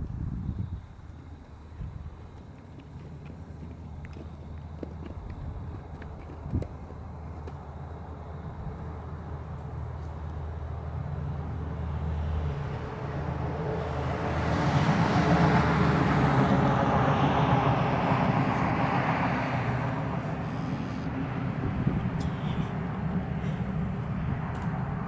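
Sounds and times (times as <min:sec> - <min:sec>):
motor vehicle passing: 0:01.2 - 0:25.0.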